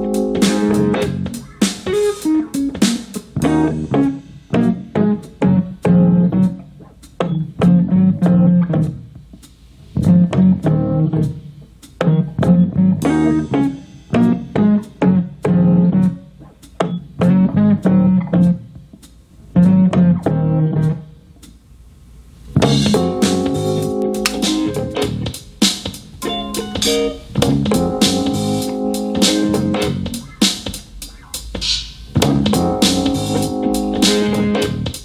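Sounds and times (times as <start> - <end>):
plucked bass guitar riff: 0.0 - 9.1, 10.0 - 18.8, 19.5 - 21.1, 22.6 - 25.4, 26.2 - 31.5, 32.2 - 35.0.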